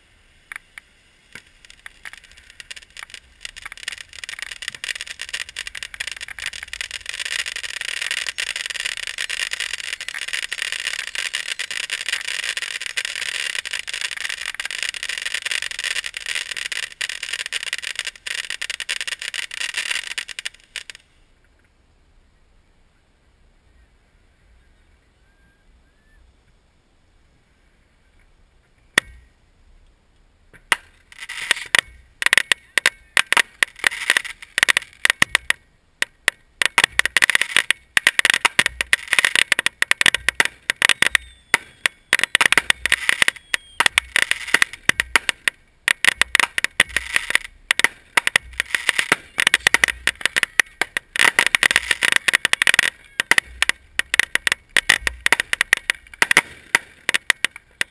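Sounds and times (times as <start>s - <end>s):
fireworks crackling: 0.0s - 21.7s, 28.8s - 29.4s, 30.5s - 57.9s.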